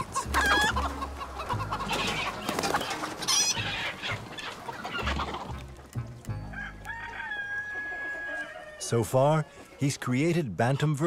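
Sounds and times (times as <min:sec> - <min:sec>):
chickens clucking and squawking: 0:00.0 - 0:11.0.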